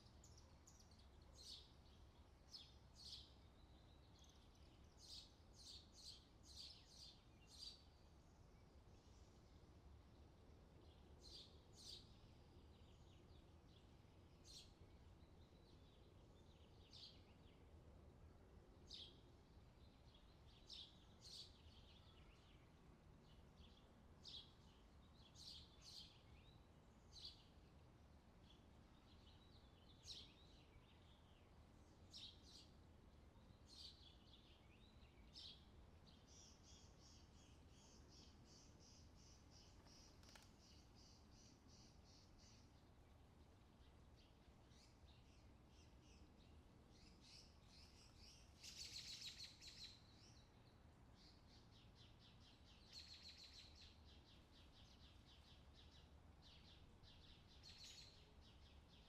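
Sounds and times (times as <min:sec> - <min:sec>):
low steady hiss: 0:00.0 - 0:59.0
wild birds chirping: 0:00.0 - 0:59.0.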